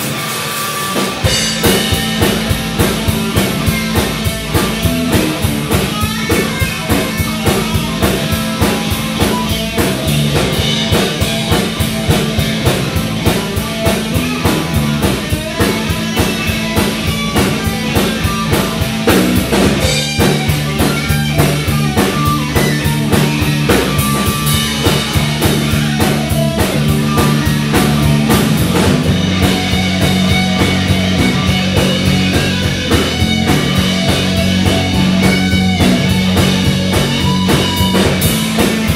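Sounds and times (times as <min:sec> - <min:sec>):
drum kit: 0:00.0 - 0:38.9
electric bass: 0:00.0 - 0:38.9
electric guitar: 0:00.0 - 0:38.9.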